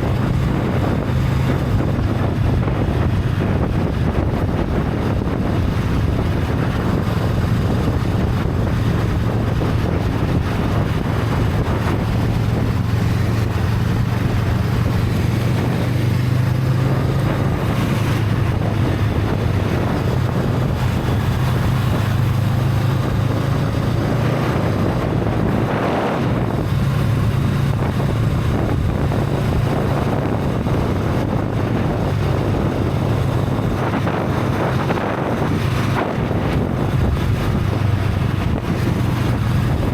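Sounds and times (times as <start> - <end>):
motorcycle engine humming: 0.0 - 39.9
wind buffeting microphone: 0.0 - 39.9.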